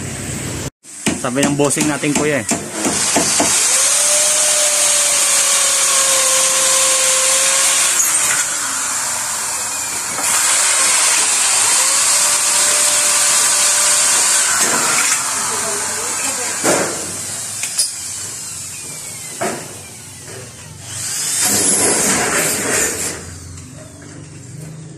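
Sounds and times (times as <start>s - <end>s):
electric drill whining: 2.8s - 23.7s.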